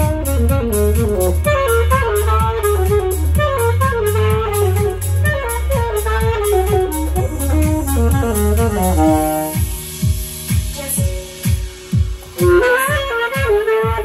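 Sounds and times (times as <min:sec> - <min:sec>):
backing track with beat: 0:00.0 - 0:14.0
heavy bass: 0:00.0 - 0:14.0
saxophone melody: 0:00.0 - 0:14.0.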